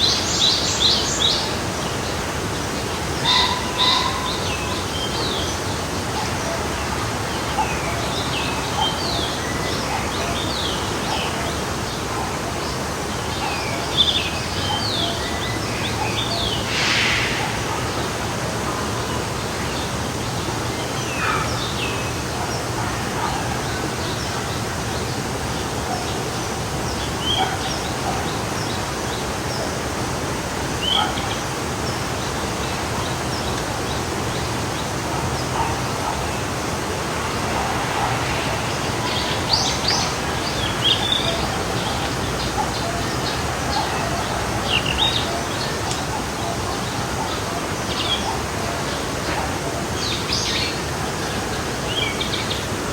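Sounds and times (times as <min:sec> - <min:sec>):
stream flowing: 0:00.0 - 0:52.9.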